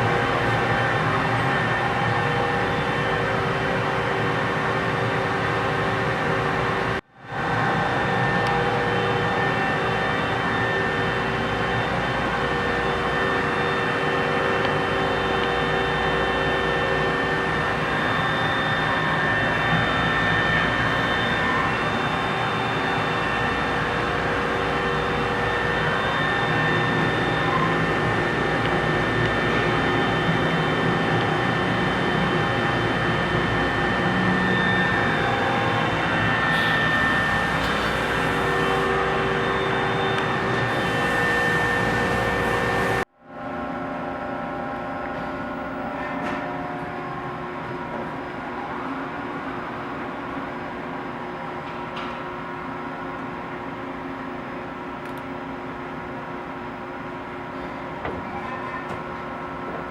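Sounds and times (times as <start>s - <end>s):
lathe mechanical drone with whine: 0.0s - 58.2s.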